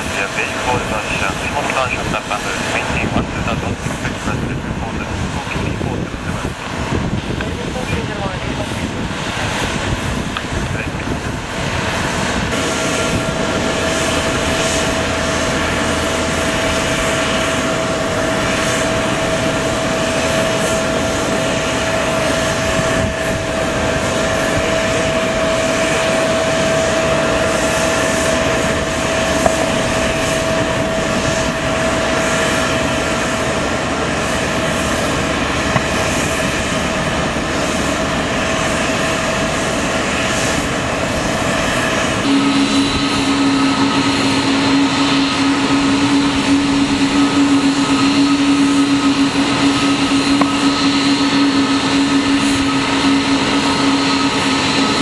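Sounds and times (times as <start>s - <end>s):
jet aircraft rushing: 0.0s - 55.0s
jet engine high whine: 0.0s - 55.0s.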